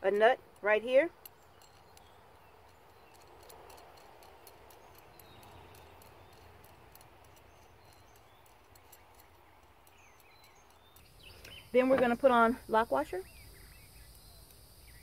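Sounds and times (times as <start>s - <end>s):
faint outdoor hiss: 0.0s - 15.0s
high-pitched ticking: 0.5s - 12.9s.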